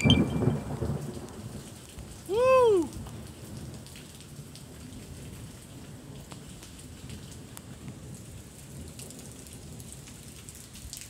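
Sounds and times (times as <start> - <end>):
thunder rumble: 0.0 - 10.9
steady rain: 0.0 - 11.0.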